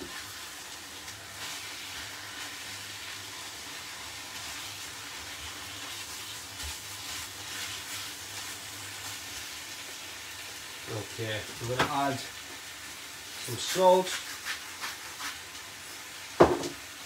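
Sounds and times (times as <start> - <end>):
steaks sizzling in frying pan: 0.0 - 17.0.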